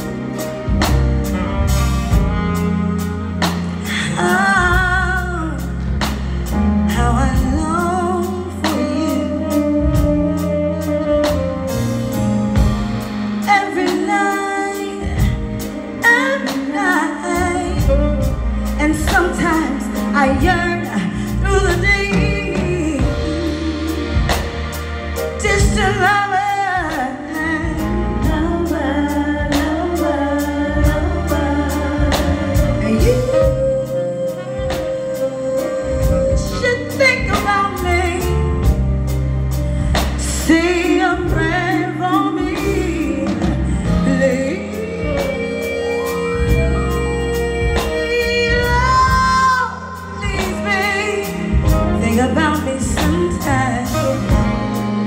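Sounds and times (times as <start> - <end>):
keyboard bass and drums: 0.0 - 55.0
woman singing soul ballad: 0.0 - 55.0.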